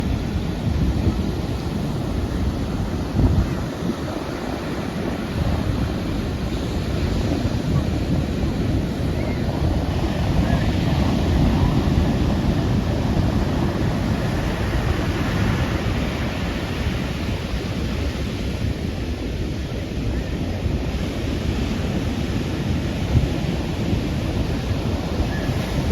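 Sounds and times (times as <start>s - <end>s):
ocean waves breaking: 0.0s - 25.9s
wind buffeting microphone: 0.0s - 25.9s.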